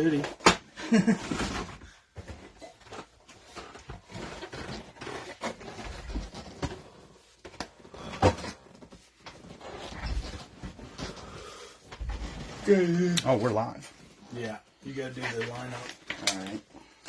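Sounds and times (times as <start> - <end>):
rustling of things handled: 0.0 - 17.0.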